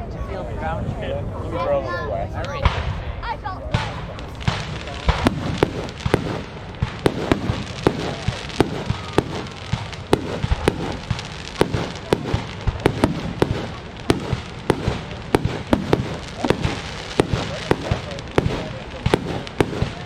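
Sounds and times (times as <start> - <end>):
continuous rumbling: 0.0 - 20.0
fireworks bangs: 2.4 - 20.0.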